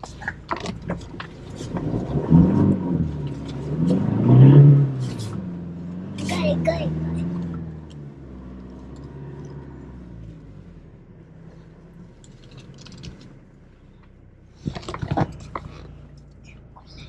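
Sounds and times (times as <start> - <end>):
pickup engine humming: 0.0 - 17.0.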